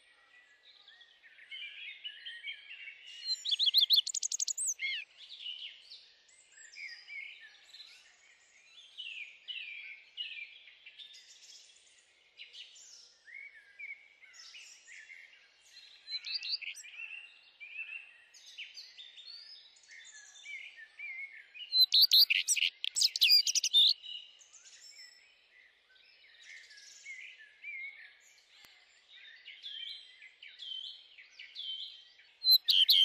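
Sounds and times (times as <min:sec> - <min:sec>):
songbirds chirping and warbling: 0:00.0 - 0:33.0.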